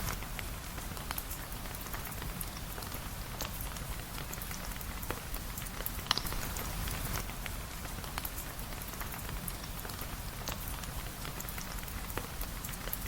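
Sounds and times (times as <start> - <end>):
rain falling: 0.0 - 13.0
sharp drips and ticks: 0.0 - 13.0.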